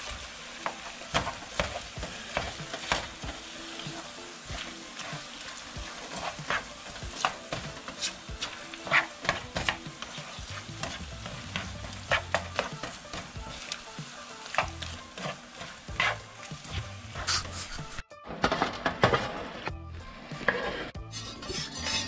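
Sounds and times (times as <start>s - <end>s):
meat sizzling in a frying pan: 0.0s - 18.0s
spatula scraping a pan: 0.0s - 22.0s.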